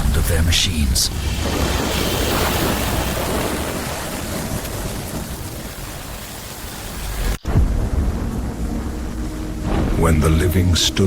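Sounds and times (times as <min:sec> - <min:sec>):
rain-like rushing noise: 0:00.0 - 0:10.8.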